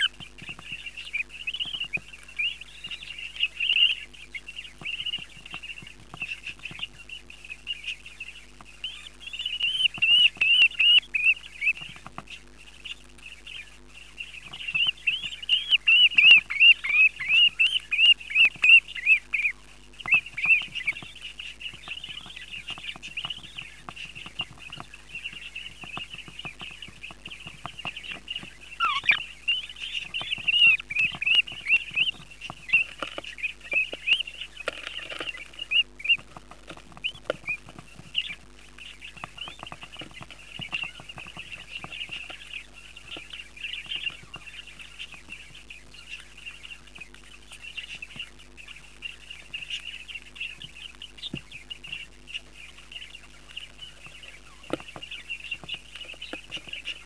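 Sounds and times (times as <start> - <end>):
chicks cheeping high-pitched: 0.0 - 57.0.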